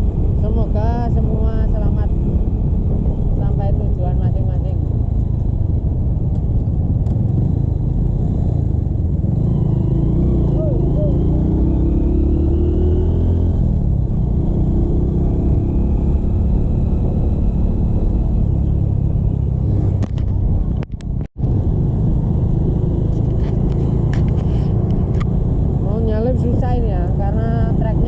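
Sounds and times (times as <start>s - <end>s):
motorcycle engine rumble: 0.0s - 28.0s
road noise: 0.0s - 28.0s.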